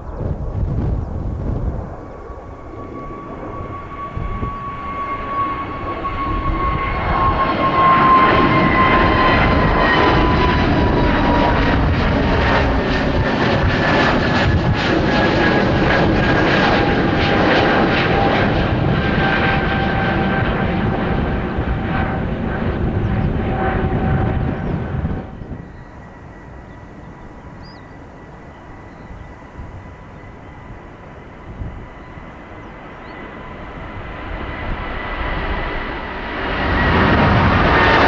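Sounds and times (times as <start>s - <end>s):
jet engine rumble: 0.0s - 38.0s
jet engine whine: 0.0s - 38.0s.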